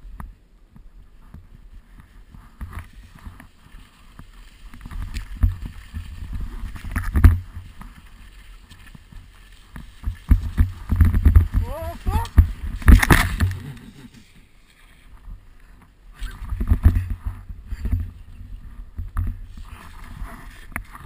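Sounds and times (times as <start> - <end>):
skis scraping over snow: 1.0 - 21.0.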